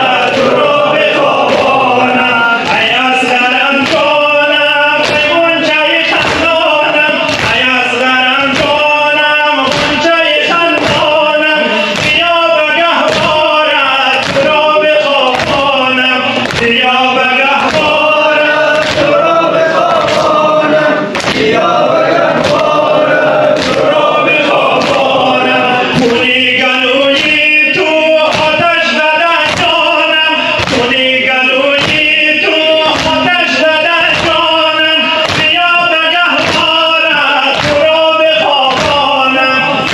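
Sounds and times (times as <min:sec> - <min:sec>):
man reciting through loudspeaker: 0:00.0 - 0:39.9
men chanting in unison: 0:00.0 - 0:39.9
hands slapping chests: 0:00.2 - 0:08.9, 0:09.6 - 0:10.0, 0:11.8 - 0:12.3, 0:13.0 - 0:28.8, 0:29.4 - 0:31.1, 0:32.8 - 0:33.4, 0:34.1 - 0:39.9.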